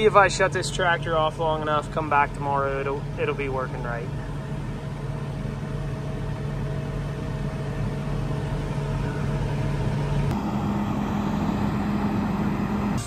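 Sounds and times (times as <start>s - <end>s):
tractor engine humming: 0.0s - 13.0s.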